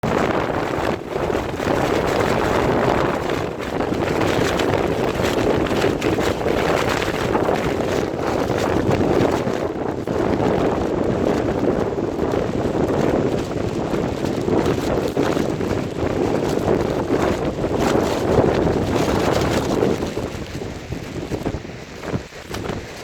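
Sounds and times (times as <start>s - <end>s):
plastic sheeting flapping: 0.0s - 23.0s
wind buffeting microphone: 0.0s - 23.0s.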